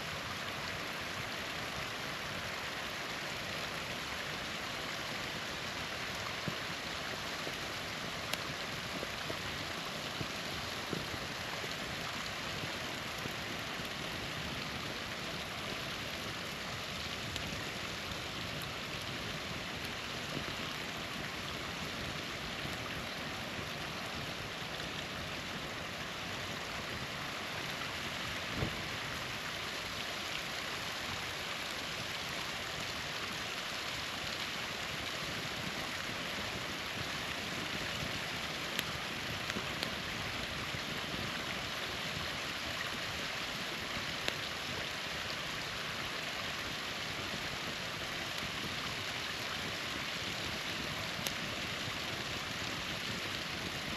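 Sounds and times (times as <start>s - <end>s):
small waterfall splashing: 0.0s - 53.9s
campfire popping: 0.1s - 53.9s.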